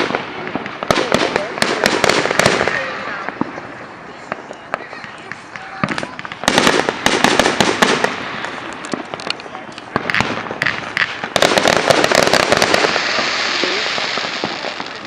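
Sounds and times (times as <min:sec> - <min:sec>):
fireworks hiss: 0:00.0 - 0:15.0
fireworks popping and crackling: 0:00.0 - 0:15.0.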